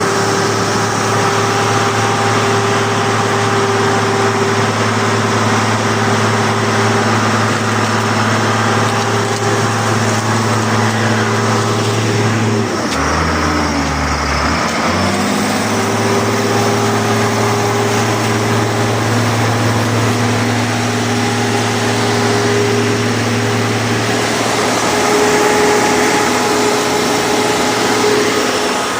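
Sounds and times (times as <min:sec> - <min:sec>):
pump engine drone: 0:00.0 - 0:28.9.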